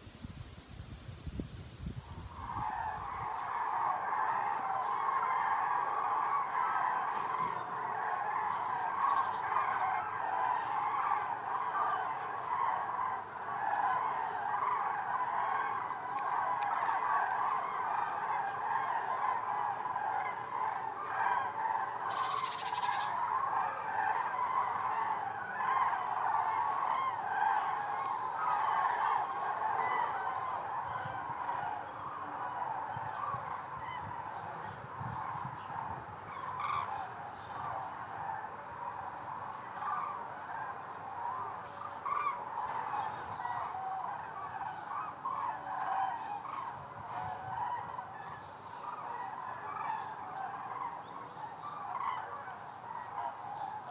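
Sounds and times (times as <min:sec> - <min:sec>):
cranes trumpeting calls: 0:02.2 - 0:53.9.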